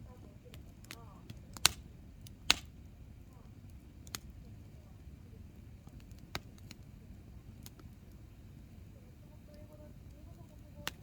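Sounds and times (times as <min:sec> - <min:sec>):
campfire flames burning: 0:00.0 - 0:11.0
firewood popping: 0:00.0 - 0:11.0.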